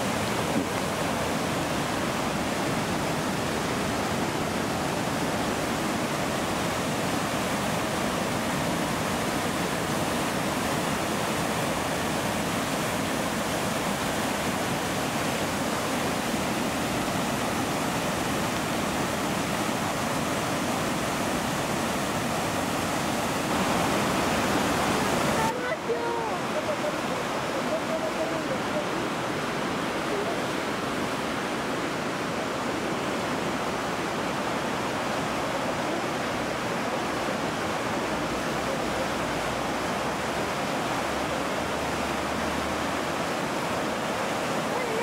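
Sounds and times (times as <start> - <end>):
river rushing torrent: 0.0 - 45.0.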